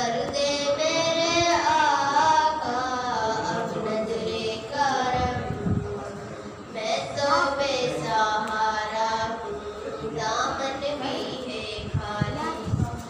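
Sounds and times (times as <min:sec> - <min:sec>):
girl singing into a microphone: 0:00.0 - 0:05.9, 0:06.7 - 0:09.4, 0:10.1 - 0:13.0.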